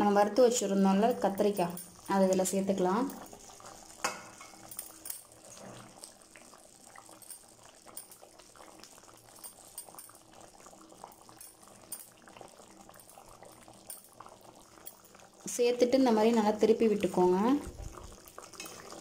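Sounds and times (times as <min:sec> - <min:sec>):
thick gravy bubbling and popping: 0:00.0 - 0:19.0.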